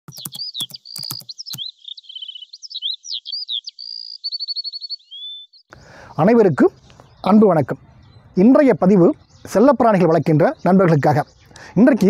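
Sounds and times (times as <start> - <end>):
fast bird trill: 0.1 - 11.6
songbird singing: 0.1 - 12.0.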